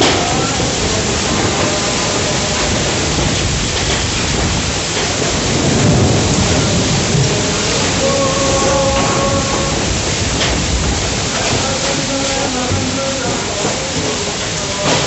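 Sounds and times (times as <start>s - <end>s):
heavy storm rain pouring: 0.0s - 15.0s.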